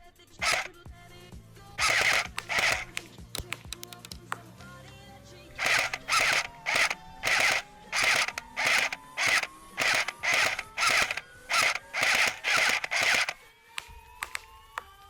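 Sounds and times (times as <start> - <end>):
airsoft rifle shots whirring: 0.0 - 4.0, 5.6 - 14.5.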